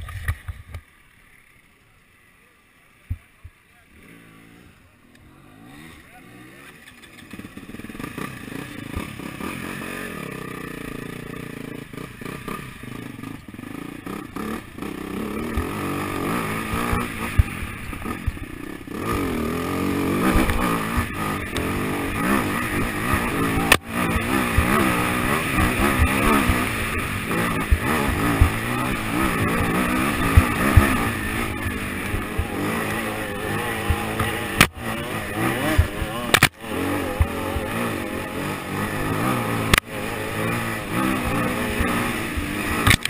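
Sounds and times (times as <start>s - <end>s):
motorcycle engine accelerating: 3.0s - 43.0s.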